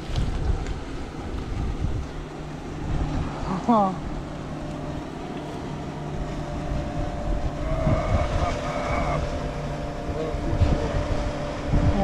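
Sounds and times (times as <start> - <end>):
low motor hum: 0.0 - 12.0
rough rumbling noise: 0.0 - 12.0.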